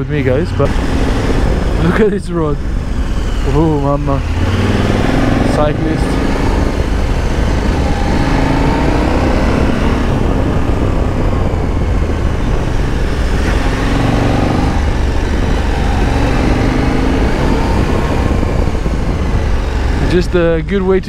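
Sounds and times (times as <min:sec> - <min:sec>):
heavy wind noise: 0:00.0 - 0:21.0
motorcycle engine running: 0:00.0 - 0:21.0.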